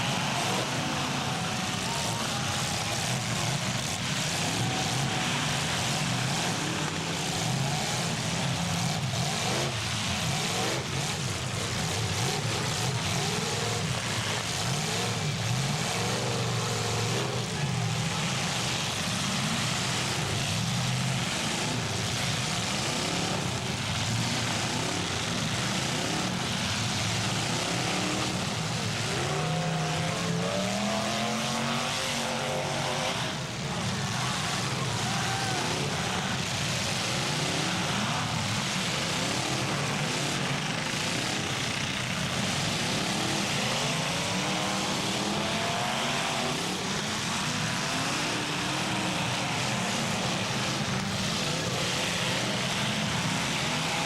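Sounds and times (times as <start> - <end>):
car engines revving: 0.0 - 54.0
din of running engines: 0.0 - 54.0.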